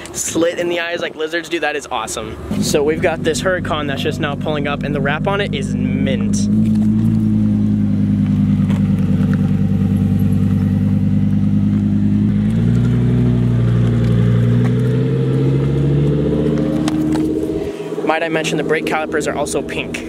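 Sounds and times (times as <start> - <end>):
car engine droning: 1.7 - 20.0.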